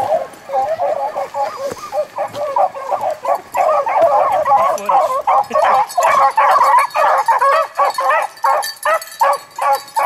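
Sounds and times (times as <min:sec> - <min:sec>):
hounds baying in chorus: 0:00.0 - 0:10.0.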